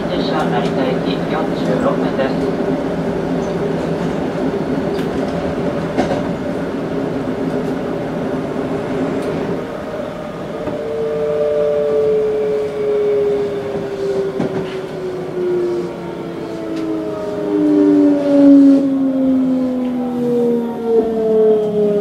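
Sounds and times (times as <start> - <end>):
train wheels on rails: 0.0 - 19.1.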